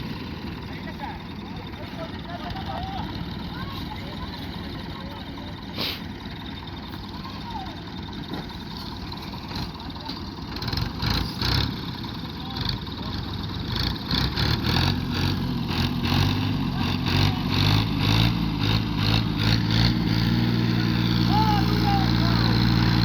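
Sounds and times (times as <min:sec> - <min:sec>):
tractor engine under load: 0:00.0 - 0:23.0.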